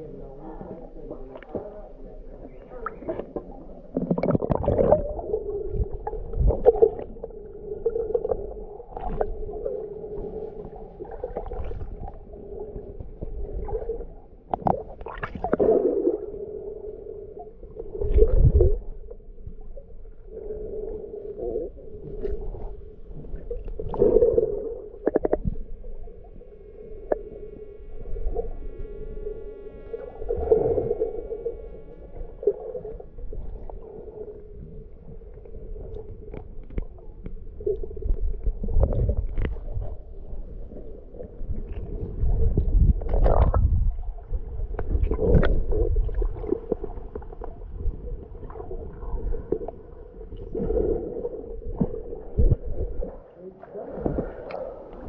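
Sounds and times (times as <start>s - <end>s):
underwater sloshing and gurgling: 0.0s - 55.0s.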